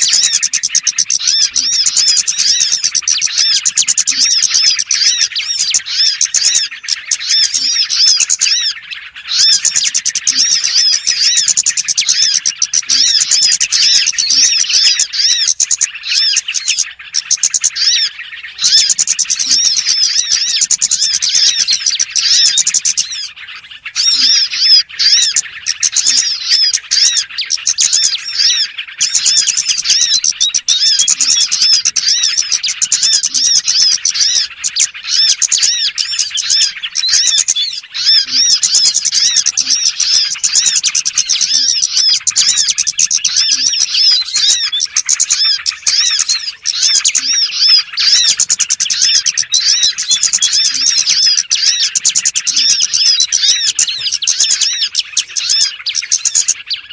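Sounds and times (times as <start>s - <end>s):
small songbirds chirping: 0.0s - 56.9s.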